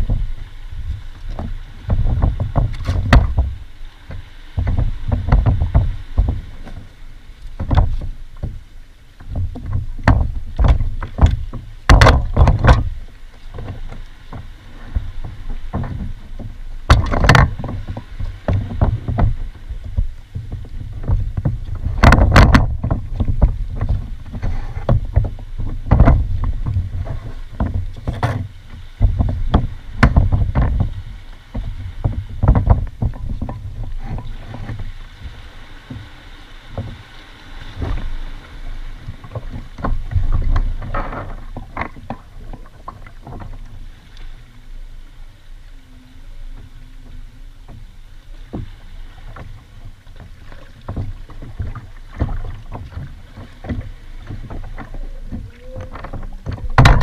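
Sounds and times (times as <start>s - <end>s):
knocks aboard a kayak: 0.0s - 44.3s, 46.4s - 57.0s
wind rumble on microphone: 0.0s - 57.0s.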